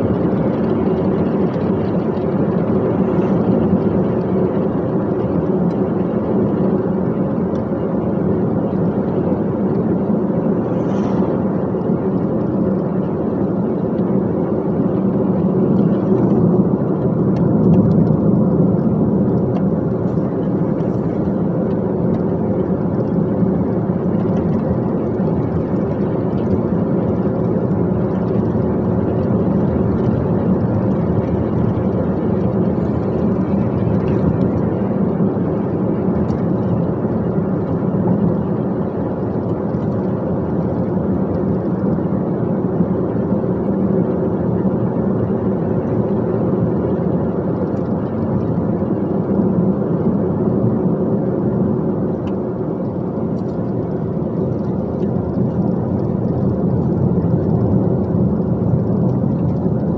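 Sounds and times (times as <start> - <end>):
road noise: 0.0 - 59.9
truck diesel engine driving: 0.0 - 59.9.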